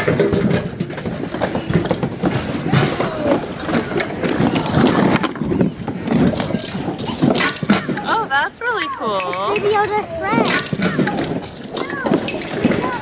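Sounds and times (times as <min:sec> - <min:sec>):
goods clattering and rattling: 0:00.0 - 0:13.0
faint voices: 0:01.5 - 0:13.0.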